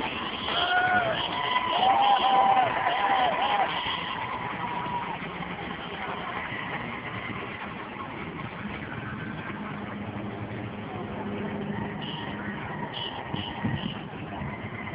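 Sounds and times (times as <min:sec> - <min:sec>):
low engine hum: 0:00.0 - 0:14.9
vehicles driving past: 0:00.0 - 0:14.9.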